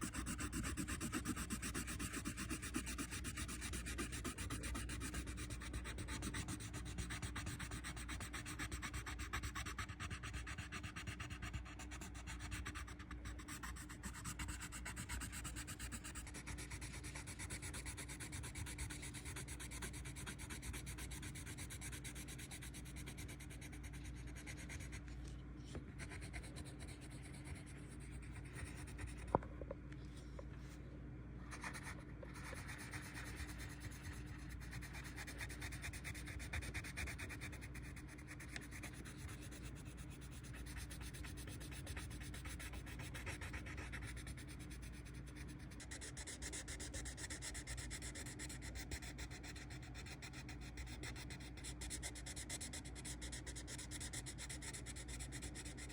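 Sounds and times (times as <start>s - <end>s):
colored pencil shading on paper: 0.0s - 25.0s, 26.0s - 29.3s, 31.5s - 55.8s.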